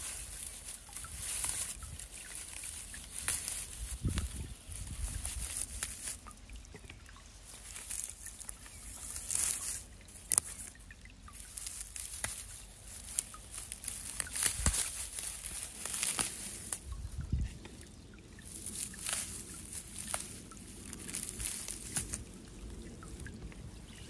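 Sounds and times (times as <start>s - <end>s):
rustling in dry leaf litter: 0.0s - 24.0s.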